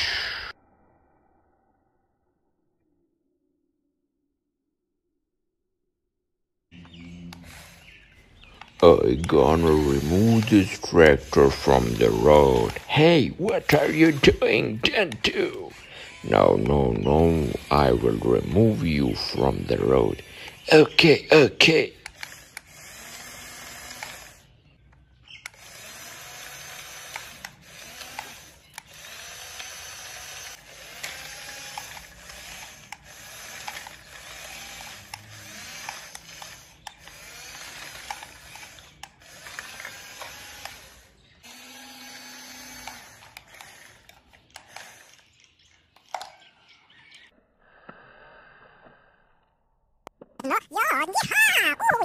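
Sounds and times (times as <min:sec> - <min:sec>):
small electric motors whirring: 0:06.8 - 0:47.3, 0:50.4 - 0:52.0.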